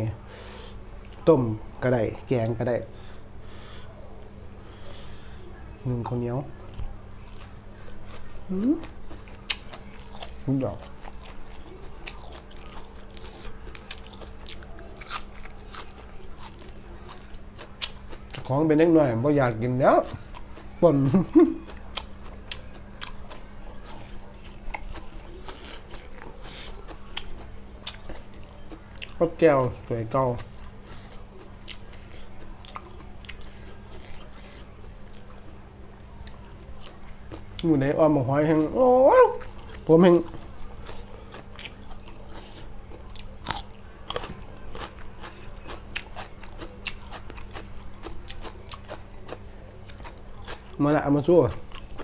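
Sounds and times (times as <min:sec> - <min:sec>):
person chewing food: 0:06.5 - 0:18.7, 0:20.0 - 0:52.0.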